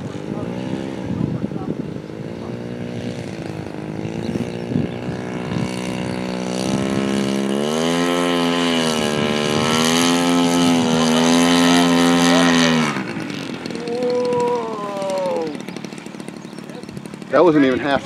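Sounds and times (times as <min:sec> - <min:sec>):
model plane petrol engine running: 0:00.0 - 0:18.0.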